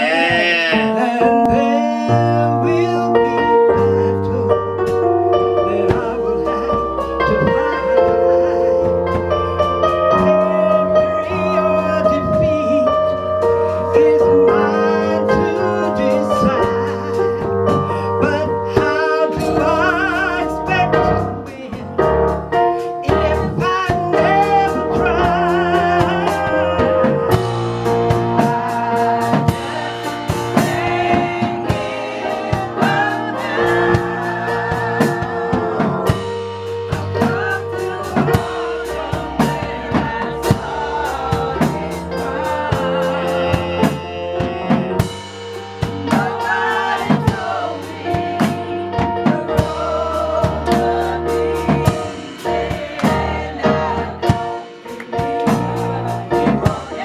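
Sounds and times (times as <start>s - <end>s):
drum kit: 0.0s - 57.0s
gospel choir singing: 0.0s - 57.0s
keyboard chords: 0.0s - 57.0s.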